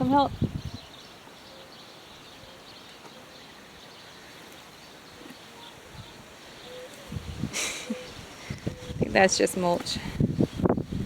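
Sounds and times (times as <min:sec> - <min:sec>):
faint outdoor background noise: 0:00.0 - 0:11.0.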